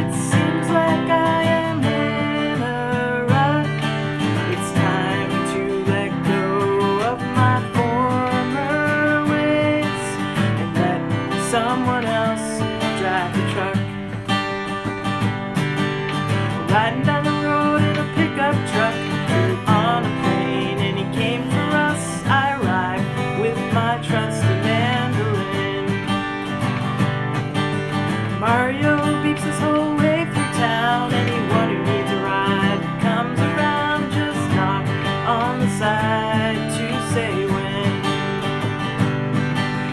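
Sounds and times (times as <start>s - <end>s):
guitar accompaniment: 0.0s - 39.9s
person singing country song: 0.0s - 39.9s.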